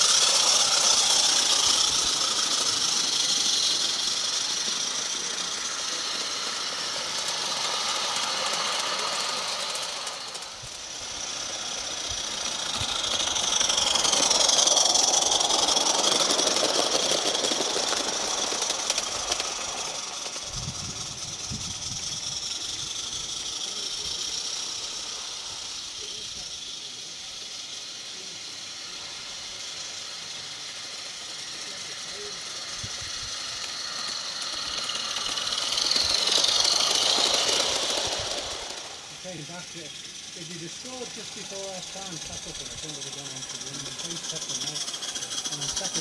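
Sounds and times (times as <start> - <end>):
model steam locomotive hissing: 0.0 - 46.0.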